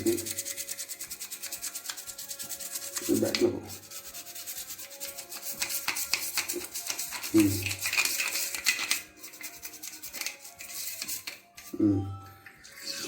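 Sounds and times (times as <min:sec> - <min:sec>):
stiff brush scrubbing plastic: 0:00.0 - 0:11.8.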